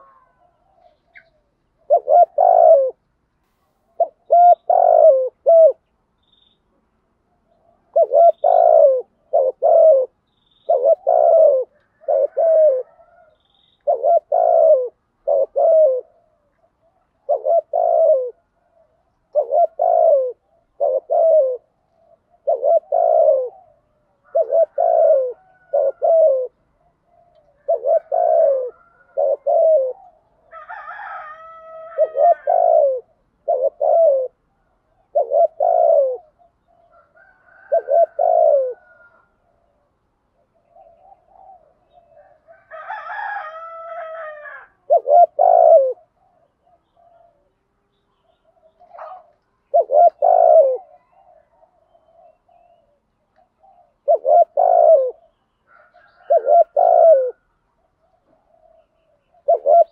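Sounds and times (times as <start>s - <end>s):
dove cooing: 0.0s - 5.9s, 7.3s - 59.9s
rough dove call: 0.0s - 5.9s, 7.3s - 59.9s.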